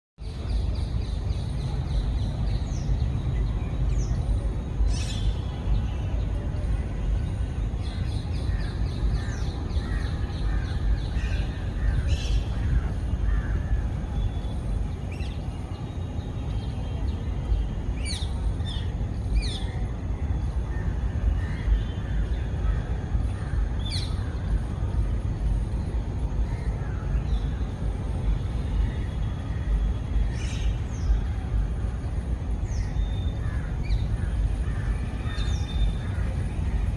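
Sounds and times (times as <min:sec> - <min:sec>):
steady low rumble: 0:00.2 - 0:36.9.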